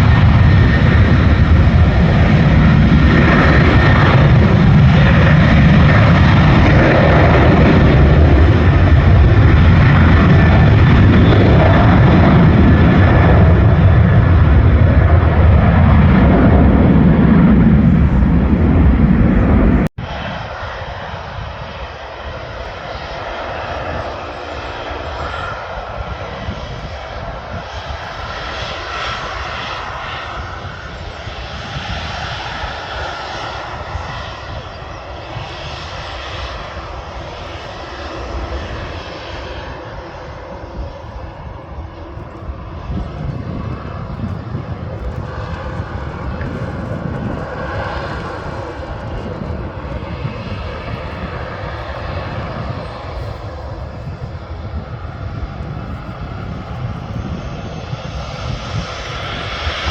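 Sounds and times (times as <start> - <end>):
loud aircraft engines rumbling: 0.0 - 59.9
quieter aircraft engine hiss: 0.0 - 59.9.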